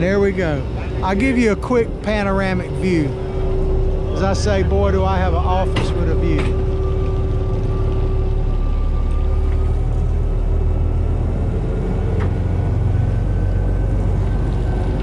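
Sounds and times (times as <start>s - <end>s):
boat engines rumbling: 0.0s - 15.0s
faint steady whine: 0.0s - 15.0s.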